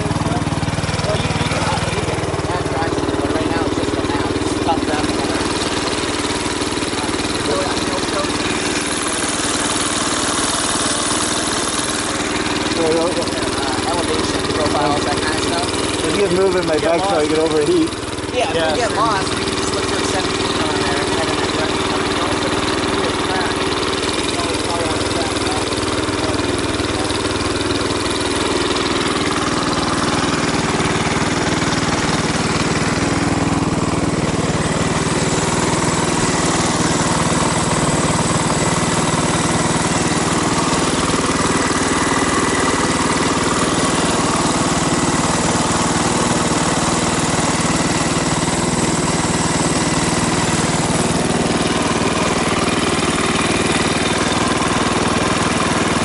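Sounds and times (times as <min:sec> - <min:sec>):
dirt bike engine idling: 0:00.0 - 0:56.0.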